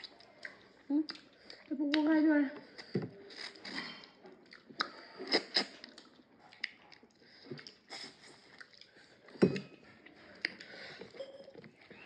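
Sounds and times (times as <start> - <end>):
wet chewing and lip smacks: 0.0 - 2.1, 2.8 - 11.8.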